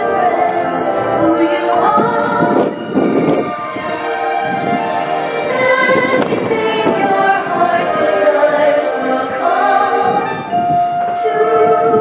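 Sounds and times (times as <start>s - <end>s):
orchestral soundtrack: 0.0s - 12.0s
voices singing sustained notes: 0.0s - 12.0s.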